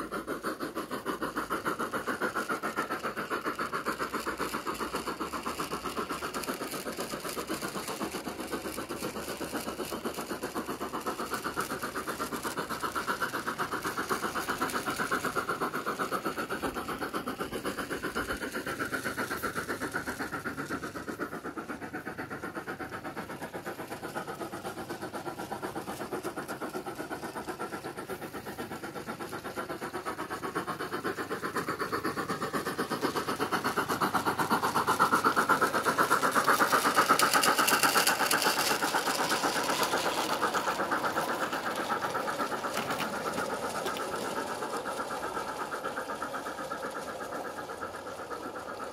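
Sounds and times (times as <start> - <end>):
model locomotive steam chuff: 0.0 - 48.9.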